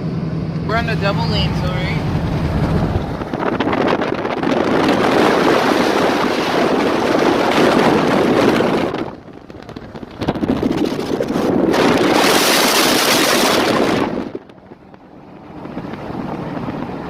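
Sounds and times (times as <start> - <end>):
vehicle road noise: 0.0 - 17.0
wind rushing: 0.7 - 17.0.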